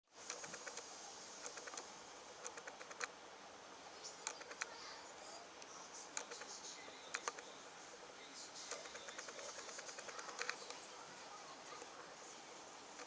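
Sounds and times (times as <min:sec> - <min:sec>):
low steady hiss: 0:00.1 - 0:13.0.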